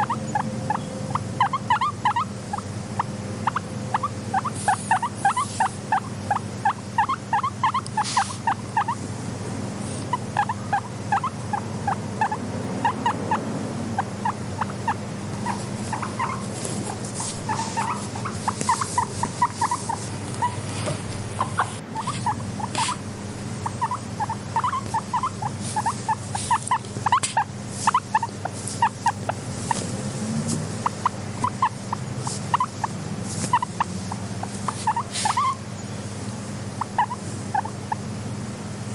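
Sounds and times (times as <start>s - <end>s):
guinea pigs squeaking: 0.0s - 9.0s, 9.9s - 35.8s, 36.5s - 38.1s.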